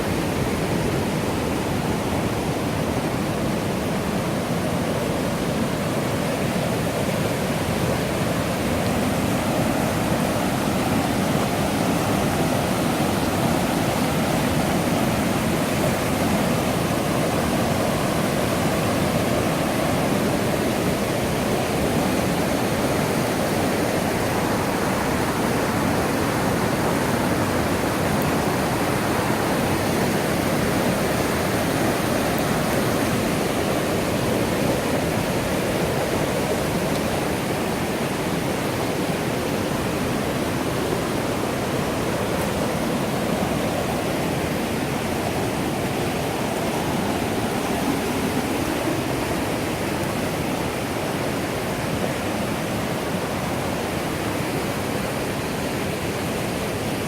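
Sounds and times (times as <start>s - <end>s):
water rushing over rapids: 0.0s - 57.0s.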